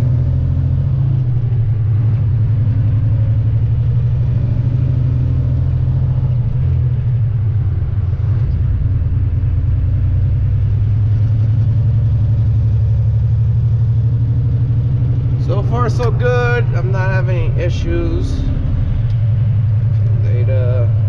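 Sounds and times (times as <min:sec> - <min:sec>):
diesel truck engine drone: 0:00.0 - 0:21.0.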